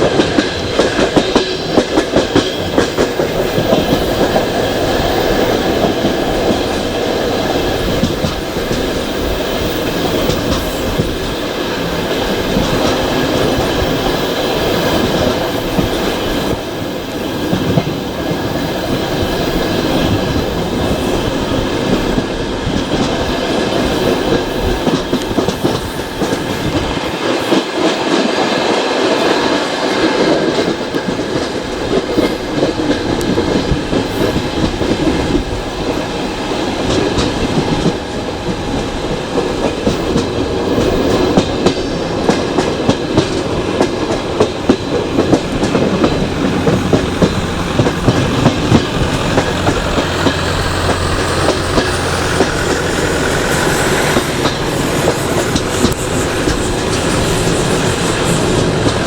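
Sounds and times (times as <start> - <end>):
train rumbling on rails: 0.0 - 59.0
wheels clicking over rail joints: 0.0 - 59.0.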